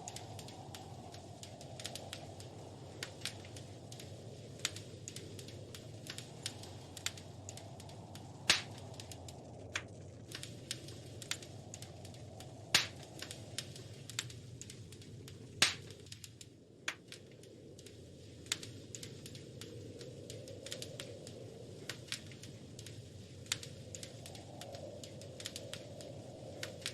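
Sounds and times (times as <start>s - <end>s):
low rush of flame: 0.0s - 26.9s
wood fire crackling: 0.0s - 26.9s.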